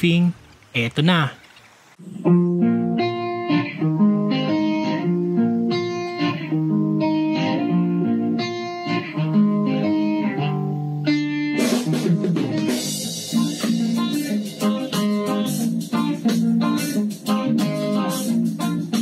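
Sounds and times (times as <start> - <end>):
plucked guitar background music: 2.0 - 19.0.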